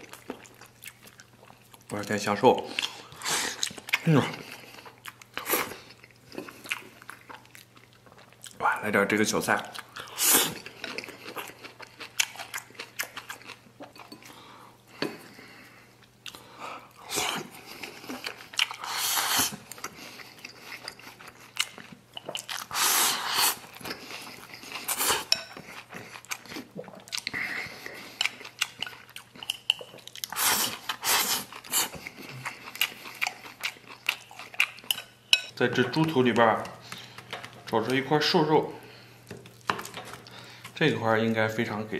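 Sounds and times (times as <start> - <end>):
person chewing food: 0.0 - 8.7, 9.6 - 38.0, 38.8 - 40.8.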